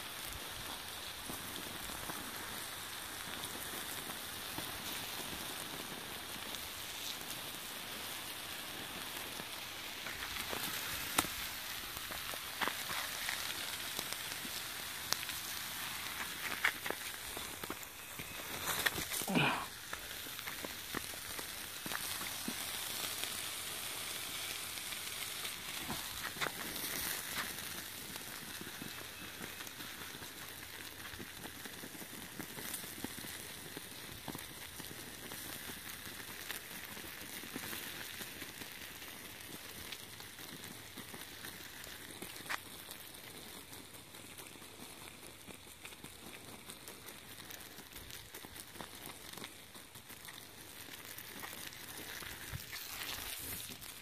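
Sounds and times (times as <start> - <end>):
hiss and sizzle: 0.0 - 54.0
hose water spraying on embers: 0.0 - 54.0
small crackles: 0.0 - 54.0.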